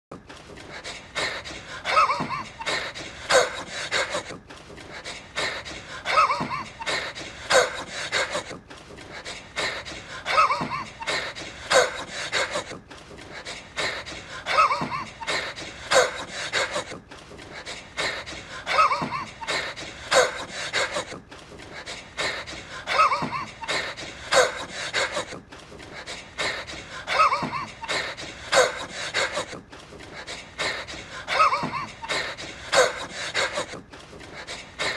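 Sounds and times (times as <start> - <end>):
man wheezing and panting: 0.1 - 34.9.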